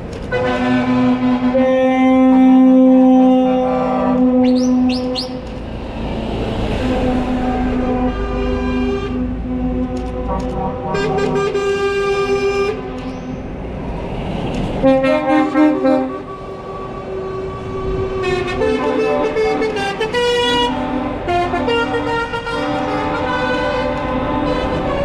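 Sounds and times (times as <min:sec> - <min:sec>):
truck air horns blaring: 0:00.3 - 0:05.4, 0:06.7 - 0:13.6, 0:14.8 - 0:25.0.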